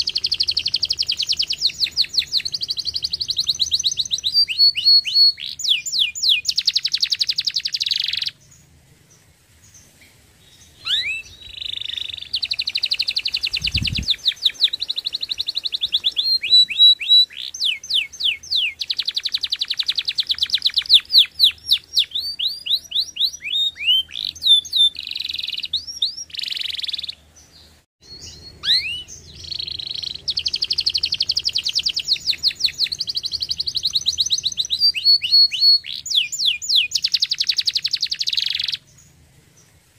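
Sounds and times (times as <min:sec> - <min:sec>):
canary singing trills: 0:00.0 - 0:39.1.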